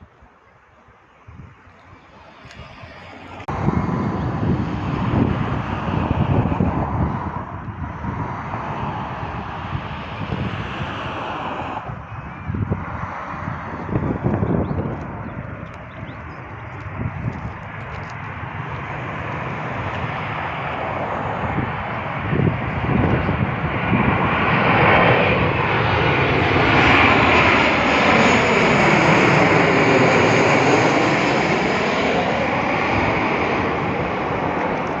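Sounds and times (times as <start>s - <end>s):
airliner engines roaring: 0.0s - 35.0s.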